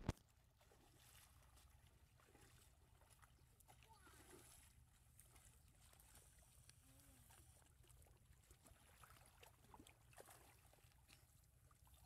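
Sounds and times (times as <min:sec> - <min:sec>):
muddy water sloshing: 0:00.0 - 0:12.0.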